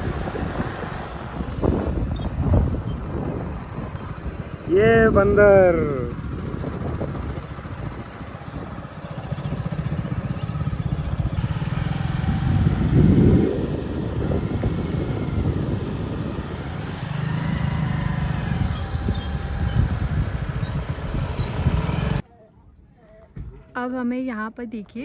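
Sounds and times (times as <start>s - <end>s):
road and wind noise: 0.0s - 22.2s
small motorcycle engine running: 0.0s - 22.2s.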